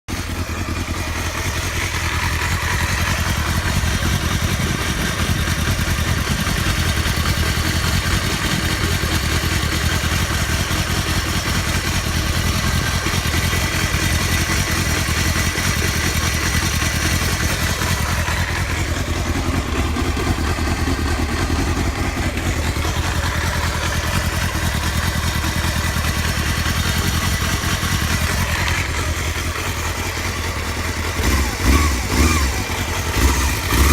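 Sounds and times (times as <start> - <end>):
abnormal engine noise: 0.1 - 33.9
motorcycle engine running: 0.1 - 33.9.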